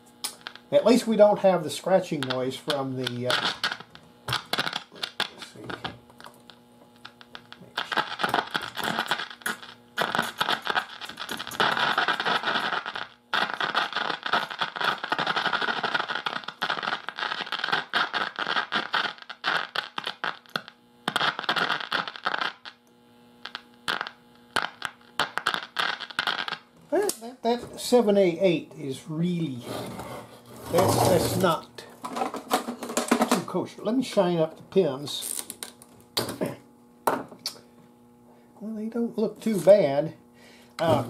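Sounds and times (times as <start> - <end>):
mains hum: 0.0 - 41.0
radio static and crackle: 0.2 - 30.0, 30.6 - 35.4, 40.8 - 41.0.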